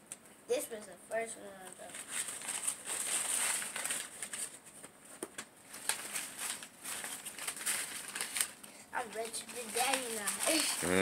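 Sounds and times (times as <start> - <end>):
paper rustling and crinkling: 1.6 - 11.0.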